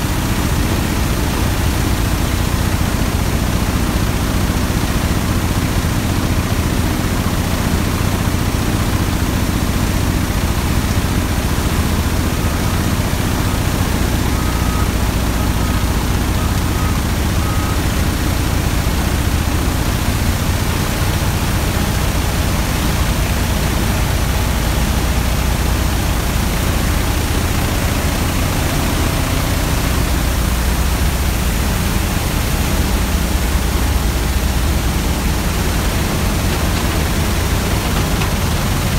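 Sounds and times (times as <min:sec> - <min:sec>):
machinery din and flowing mud: 0:00.0 - 0:38.9.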